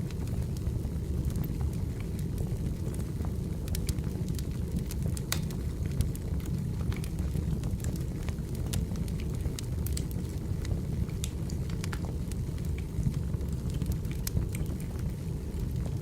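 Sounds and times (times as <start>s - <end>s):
firewood crackling: 0.0s - 16.0s.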